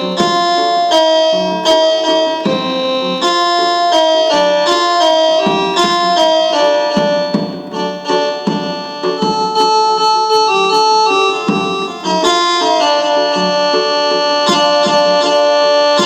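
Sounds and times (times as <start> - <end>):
electronic keyboard folk melody: 0.0 - 16.0
regular beat: 0.0 - 16.0.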